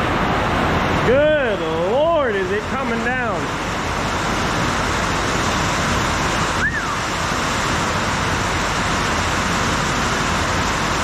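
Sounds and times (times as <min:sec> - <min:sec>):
heavy rain on a tin roof: 0:00.0 - 0:11.0.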